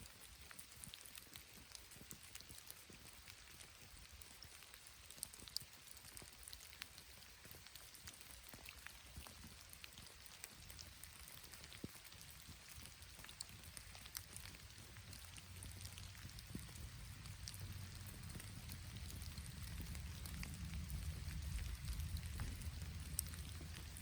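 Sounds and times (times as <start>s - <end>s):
light rain pattering: 0.0s - 24.0s.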